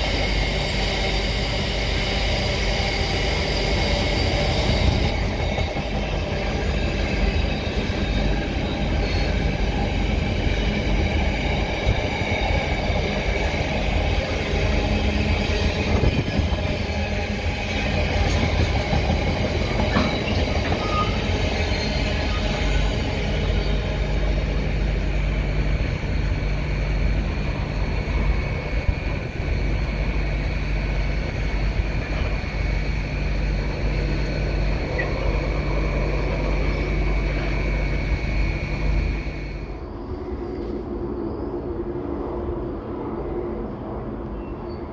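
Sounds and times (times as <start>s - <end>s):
diesel train engine hum: 0.0s - 44.9s.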